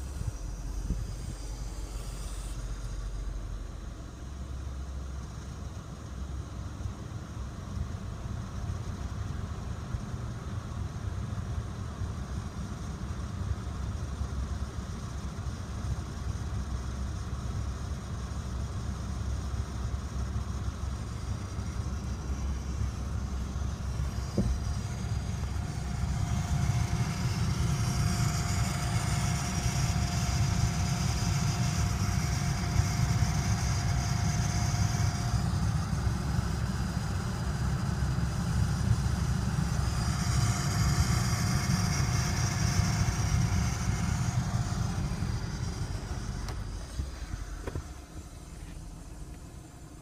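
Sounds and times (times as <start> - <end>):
car air conditioning running: 0.0 - 50.0
car engine idling rumble: 0.0 - 50.0.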